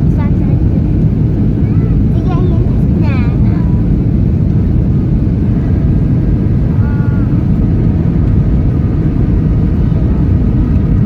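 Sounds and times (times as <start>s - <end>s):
vehicle interior rumble: 0.0s - 11.0s.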